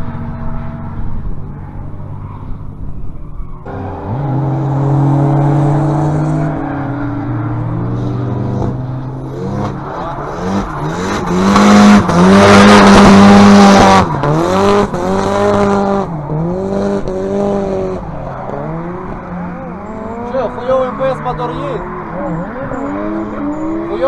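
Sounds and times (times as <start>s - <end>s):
car engine revving: 0.0s - 24.0s
tyres squealing: 3.4s - 24.0s.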